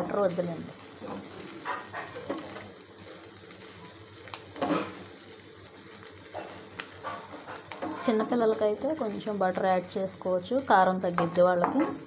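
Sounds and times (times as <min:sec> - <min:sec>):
corn sizzling in oil: 0:00.0 - 0:12.0.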